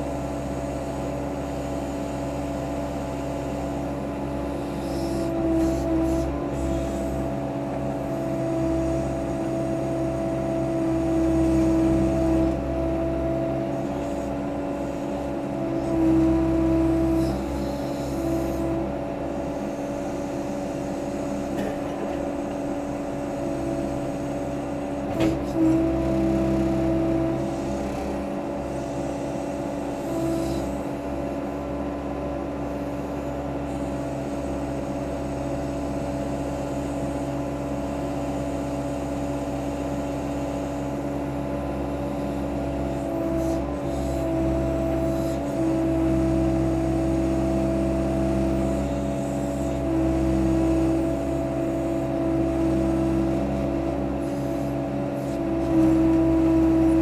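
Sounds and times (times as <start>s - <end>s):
backhoe engine running: 0.0s - 57.0s.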